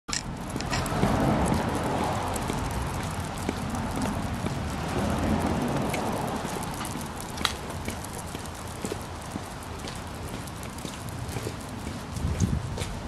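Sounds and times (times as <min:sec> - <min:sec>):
footsteps on wet sidewalk: 0:00.1 - 0:13.0
sharp ticks: 0:00.1 - 0:13.0
light rain: 0:00.3 - 0:13.0.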